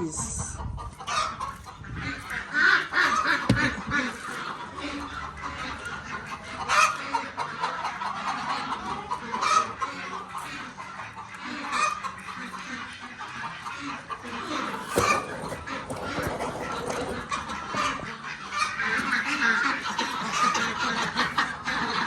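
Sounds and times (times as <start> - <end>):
chickens clucking and squawking: 0.0 - 22.0.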